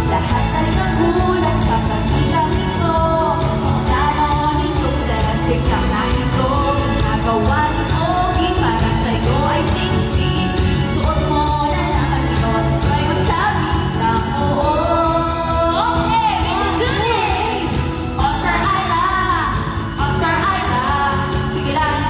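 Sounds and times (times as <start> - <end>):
group singing into microphones: 0.0 - 22.0
pop backing track: 0.0 - 22.0.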